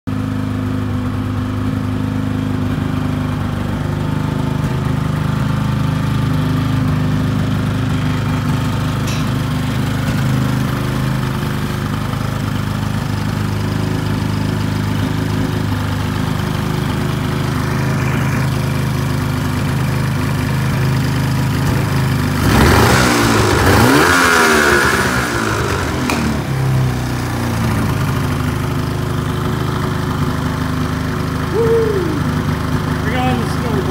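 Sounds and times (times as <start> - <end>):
snowmobile engine idling and revving: 0.1 - 33.9.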